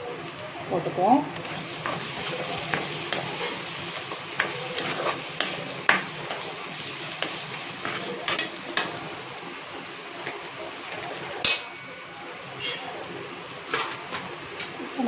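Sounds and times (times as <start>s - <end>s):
onions sizzling: 0.0s - 15.0s.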